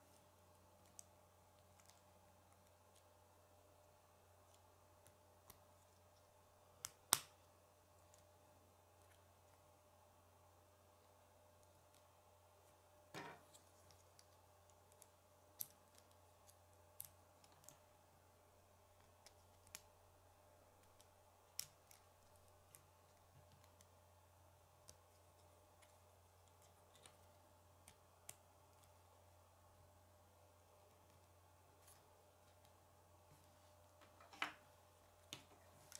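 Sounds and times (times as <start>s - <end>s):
faint low hum: 0.0s - 35.9s.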